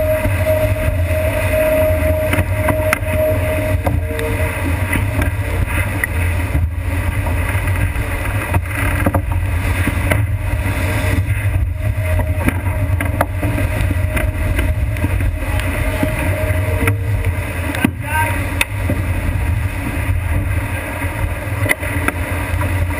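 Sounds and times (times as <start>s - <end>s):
water rushing past hull: 0.0s - 22.9s
wind buffeting microphone: 0.0s - 22.9s.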